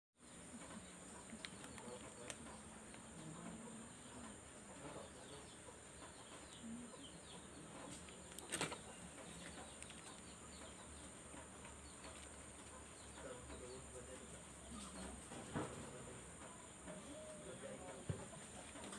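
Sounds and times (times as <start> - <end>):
birds calling: 0.2 - 18.9.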